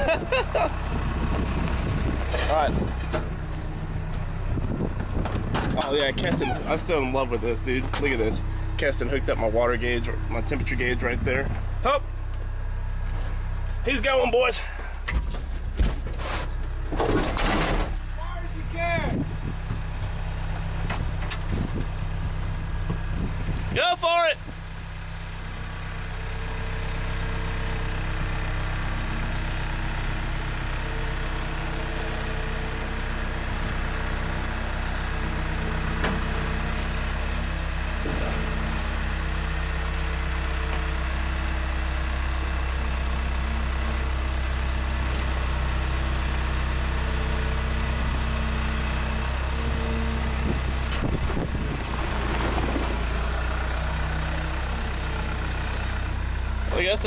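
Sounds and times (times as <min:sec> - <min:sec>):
vehicle engine idling: 0:00.0 - 0:17.0, 0:17.6 - 0:57.0.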